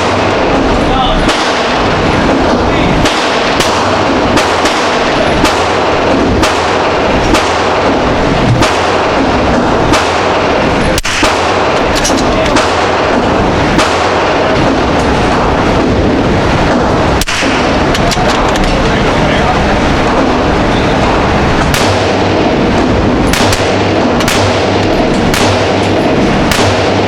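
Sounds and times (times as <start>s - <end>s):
gunshots: 0.0s - 27.0s
loud rushing noise: 0.0s - 27.0s.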